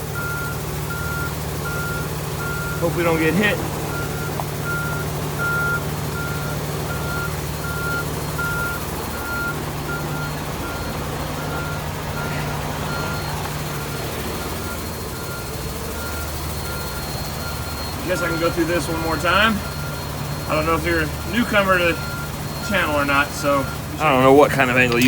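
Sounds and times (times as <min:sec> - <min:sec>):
heavy truck engine idling: 0:00.0 - 0:25.0
electronic warning beeps: 0:00.2 - 0:25.0.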